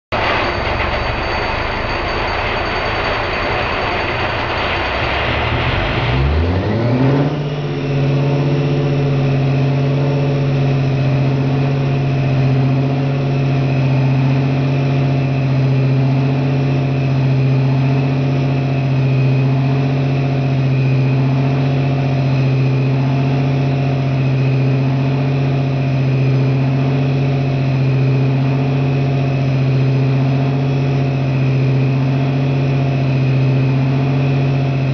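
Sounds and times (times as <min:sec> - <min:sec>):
diesel engine starting: 0:00.1 - 0:34.9.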